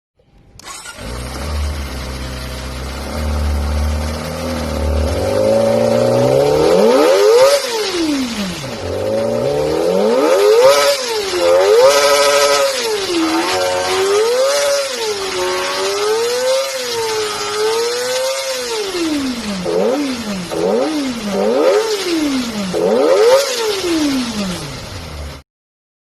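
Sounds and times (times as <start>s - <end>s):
motorcycle engine revving high: 0.6s - 25.4s.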